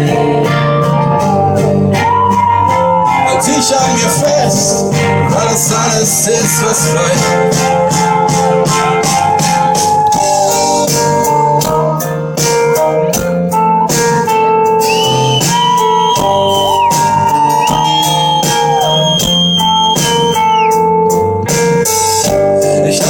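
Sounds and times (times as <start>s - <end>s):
drums and bass: 0.0s - 23.0s
guitar bending long notes: 0.0s - 23.0s.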